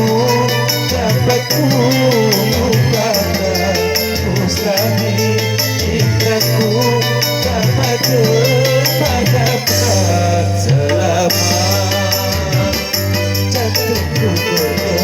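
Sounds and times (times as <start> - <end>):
bass holding notes: 0.0 - 15.0
wavering melody line: 0.0 - 15.0.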